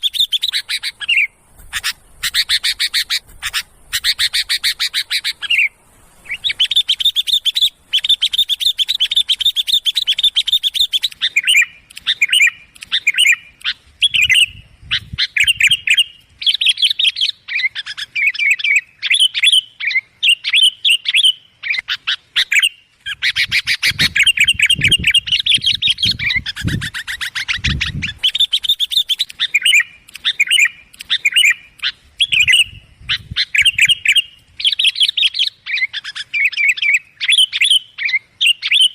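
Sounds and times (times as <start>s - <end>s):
bulbul chattering calls: 0.0s - 38.9s.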